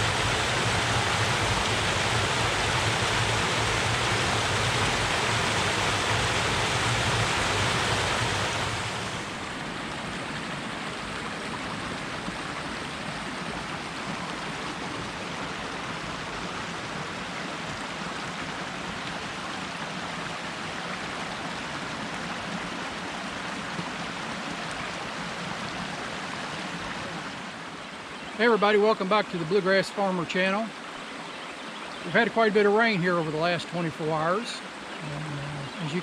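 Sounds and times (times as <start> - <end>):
water rushing in creek: 0.0 - 36.0.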